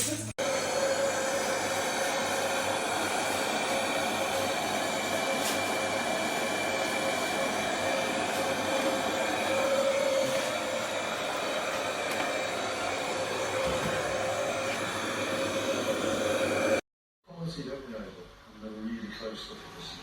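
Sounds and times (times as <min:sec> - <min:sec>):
robot vacuum fan whine: 0:00.4 - 0:16.8.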